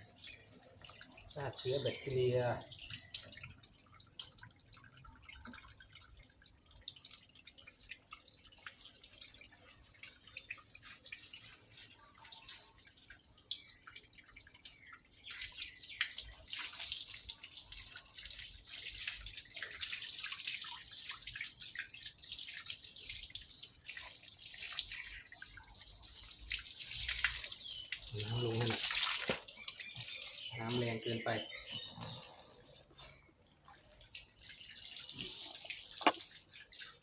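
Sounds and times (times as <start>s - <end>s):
running water splashing: 0.0s - 37.0s.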